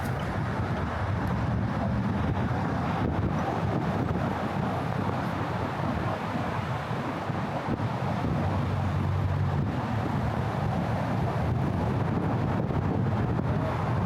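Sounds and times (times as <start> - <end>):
city road traffic rumble: 0.0 - 14.0
wind buffeting microphone: 0.0 - 14.0.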